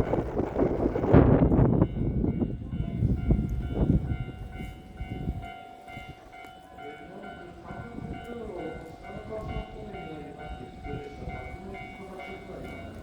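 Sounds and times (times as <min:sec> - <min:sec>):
electric train rumble and wheel clatter: 0:00.0 - 0:13.0.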